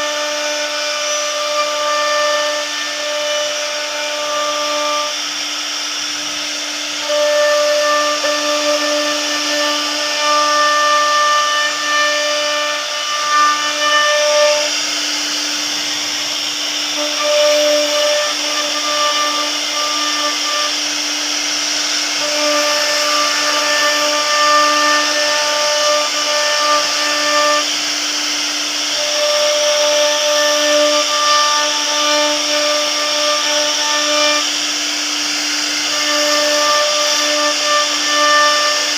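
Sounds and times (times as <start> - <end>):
hiss of cutting wood: 0.0 - 38.9
router spindle whining: 0.0 - 38.9.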